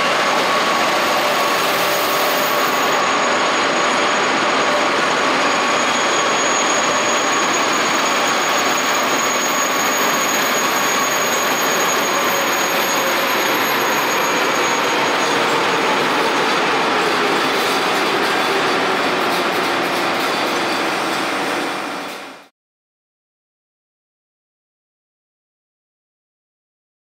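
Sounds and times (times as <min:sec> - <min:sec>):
train rolling with rushing hum: 0:00.0 - 0:22.5.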